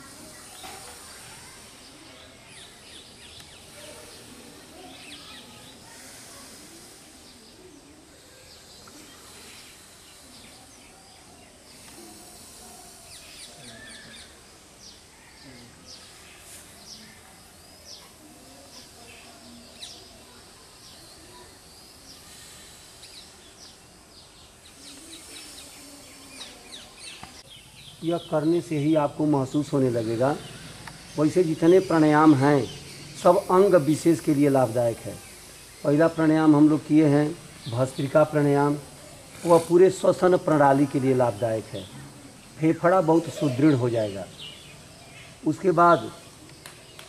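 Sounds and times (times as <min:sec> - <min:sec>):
birds chirping: 0:00.0 - 0:47.0
faint background noise: 0:00.0 - 0:47.0.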